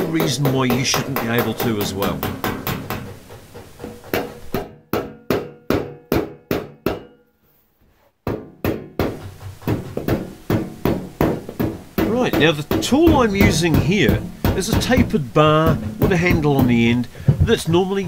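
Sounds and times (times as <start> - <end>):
hammer tapping metal bar: 0.0 - 7.2, 8.3 - 17.8.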